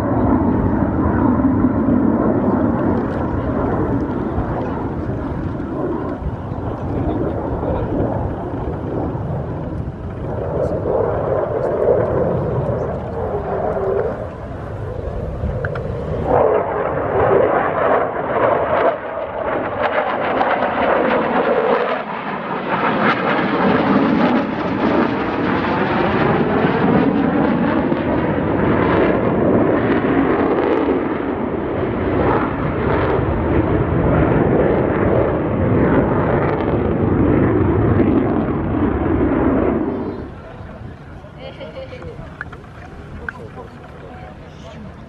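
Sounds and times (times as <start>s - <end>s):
fighter jet flying overhead: 0.0s - 45.0s.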